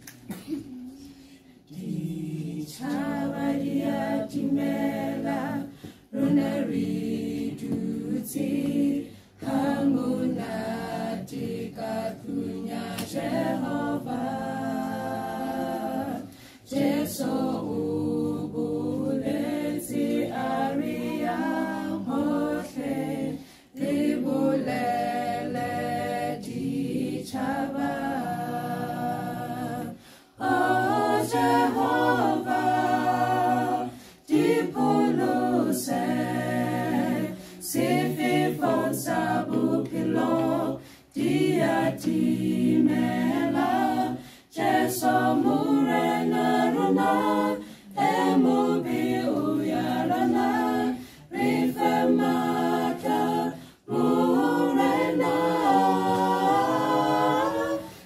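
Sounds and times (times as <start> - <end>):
group singing a cappella: 0.0 - 58.0.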